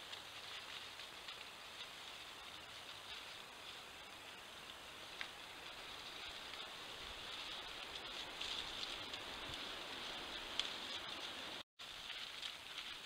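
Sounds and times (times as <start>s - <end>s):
faint ticks and crackles: 0.0s - 13.0s
outdoor night hiss: 0.0s - 13.0s.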